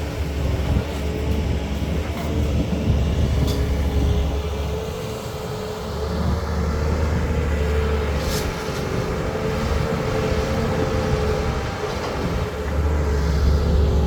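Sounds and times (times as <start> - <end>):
excavator diesel engine droning: 0.0 - 14.0.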